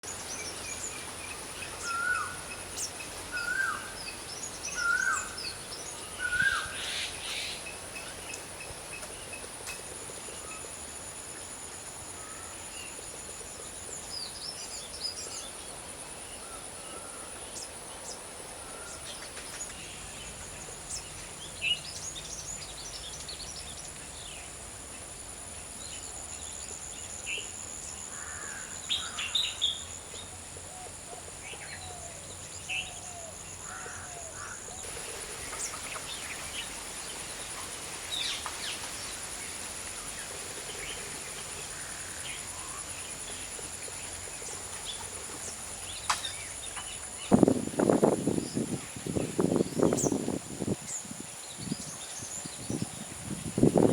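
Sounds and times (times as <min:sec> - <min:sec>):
wild birds calling and chirping: 0:00.1 - 0:24.6, 0:26.4 - 0:53.9.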